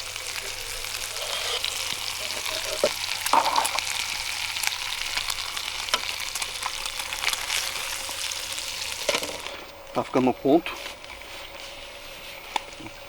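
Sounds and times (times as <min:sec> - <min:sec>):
fat crackling pops: 0:00.0 - 0:13.0
meat sizzling in a pan: 0:00.0 - 0:13.0.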